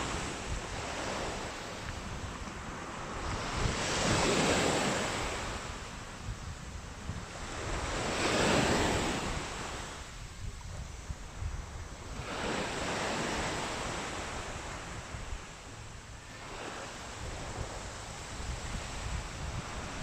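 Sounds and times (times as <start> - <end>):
sea waves breaking on sand: 0.0 - 20.0
wind buffeting microphone: 0.0 - 20.0.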